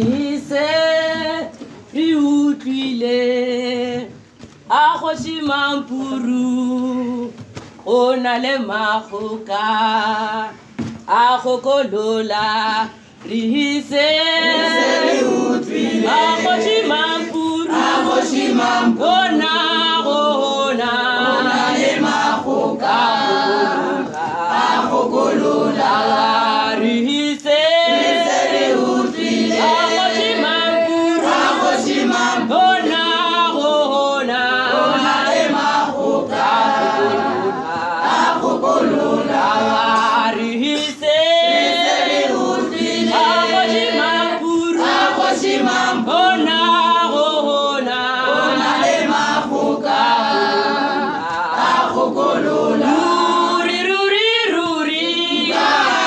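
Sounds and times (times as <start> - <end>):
women's choir singing a hymn: 0.0 - 56.0.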